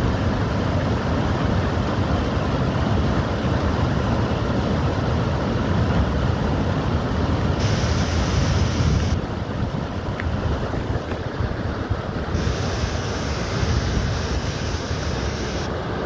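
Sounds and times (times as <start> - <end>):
water rushing over weir: 0.0 - 16.0.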